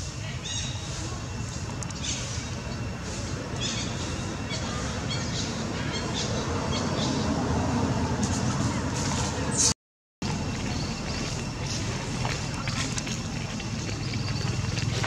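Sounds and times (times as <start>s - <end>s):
distant traffic rumble: 0.0s - 15.0s
birds chirping: 0.3s - 7.5s, 9.5s - 15.0s.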